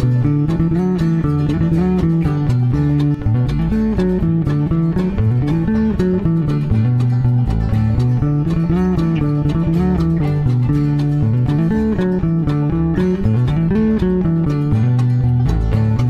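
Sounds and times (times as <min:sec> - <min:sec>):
guitar picking: 0:00.0 - 0:16.0
plucked electric bass: 0:00.0 - 0:16.0.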